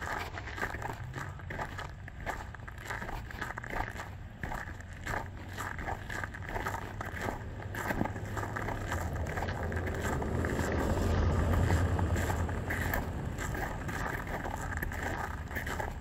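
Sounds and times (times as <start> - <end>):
vehicle passing by: 0.1 - 16.0.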